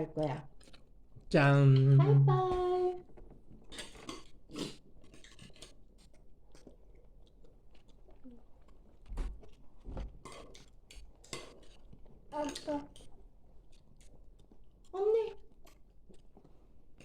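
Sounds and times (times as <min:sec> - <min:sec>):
quiet chewing: 0:00.4 - 0:01.2, 0:03.0 - 0:17.0.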